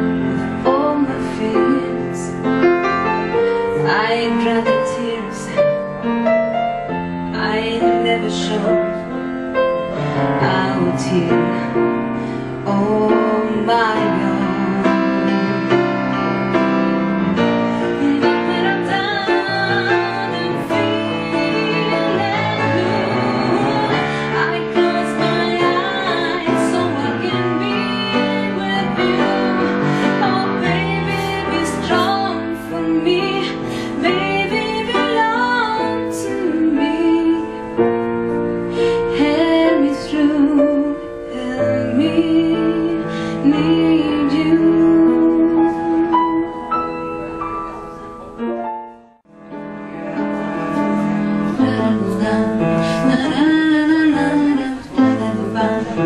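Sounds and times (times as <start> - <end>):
woman singing with vibrato: 0.0 - 2.6, 3.6 - 5.8, 7.3 - 9.1, 10.0 - 16.7, 17.3 - 37.8, 38.8 - 46.9, 51.4 - 56.0
grand piano accompaniment: 0.0 - 56.0.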